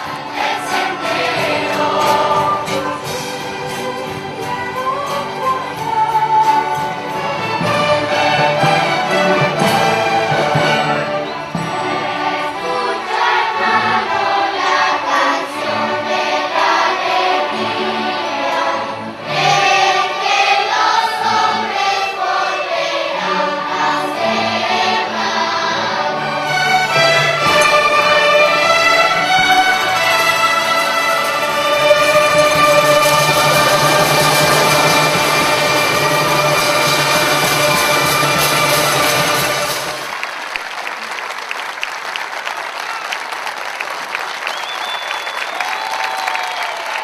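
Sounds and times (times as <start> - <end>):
voices singing along: 0.0 - 10.8, 11.6 - 40.0
youth orchestra playing: 0.0 - 40.6.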